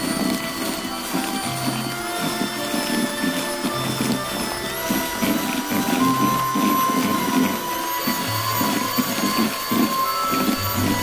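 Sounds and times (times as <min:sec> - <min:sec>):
background music: 0:00.0 - 0:11.0
electric hand mixer whisking: 0:00.0 - 0:11.0.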